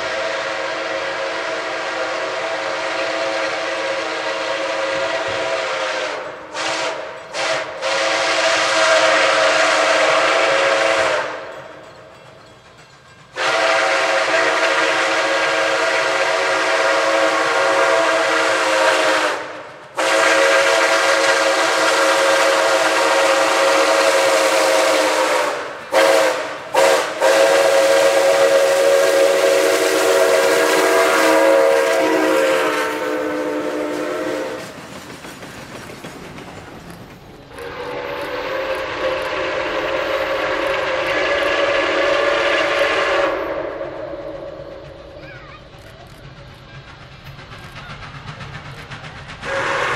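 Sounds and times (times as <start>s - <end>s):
steam locomotive whistle: 0.0s - 11.8s, 13.3s - 34.8s, 37.5s - 45.2s, 49.2s - 49.9s.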